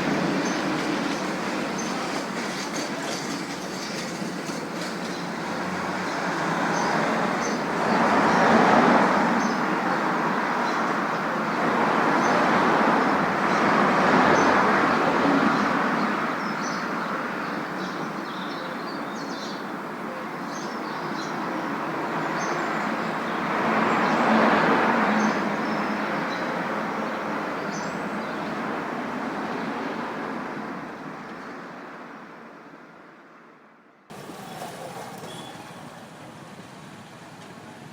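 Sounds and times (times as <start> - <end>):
road traffic noise: 0.0 - 37.9
vehicles passing by: 0.0 - 37.9.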